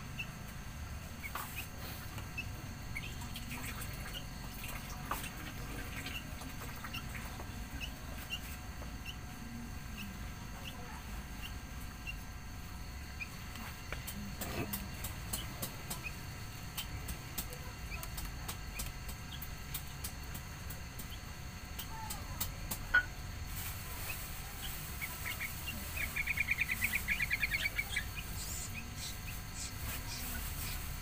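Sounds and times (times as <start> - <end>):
small bird chattering: 0.0 - 23.2, 23.9 - 31.0.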